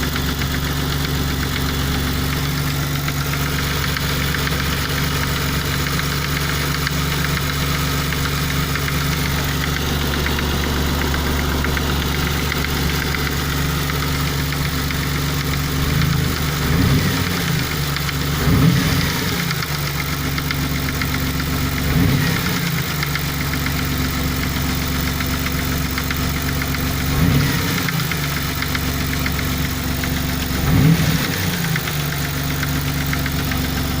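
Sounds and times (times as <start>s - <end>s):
engine revving: 0.0s - 23.4s, 26.9s - 29.4s, 30.4s - 34.0s
car engine idling with knocking: 0.0s - 34.0s.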